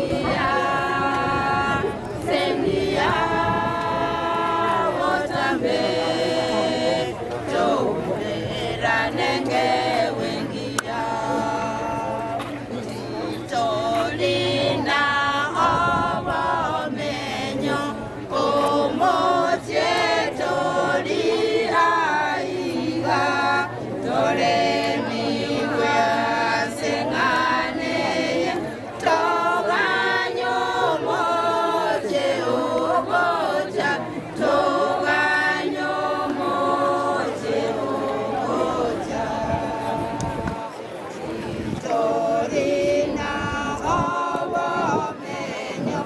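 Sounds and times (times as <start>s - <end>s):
choir singing a hymn: 0.0s - 46.0s.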